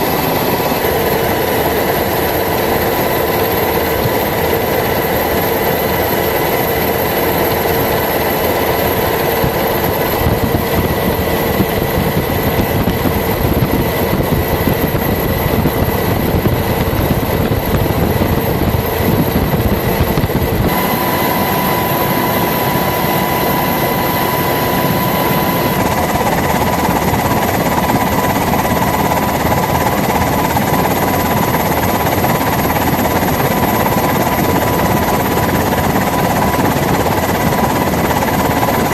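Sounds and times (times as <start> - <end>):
loud engine drone with whining: 0.0 - 38.9.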